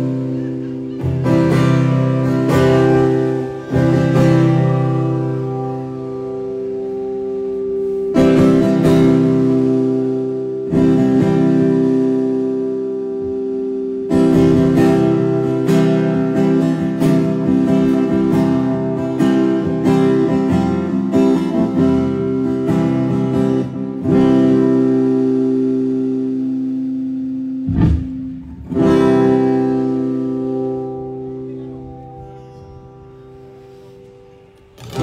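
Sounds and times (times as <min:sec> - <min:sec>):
acoustic guitar chords: 0:00.0 - 0:35.0.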